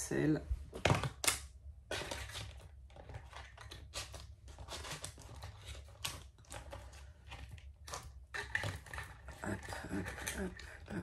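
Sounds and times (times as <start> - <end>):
plastic packaging rustling: 0.7 - 11.0.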